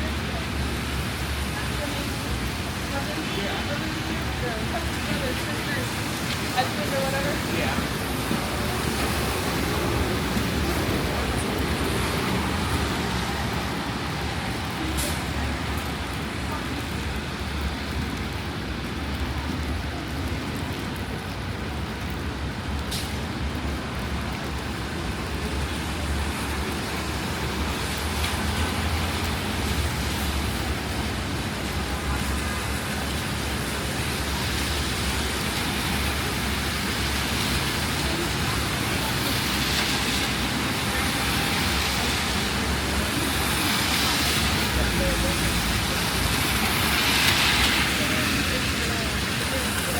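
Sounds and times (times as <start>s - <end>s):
cars passing on wet streets: 0.0s - 49.9s
rain hissing: 0.0s - 49.9s.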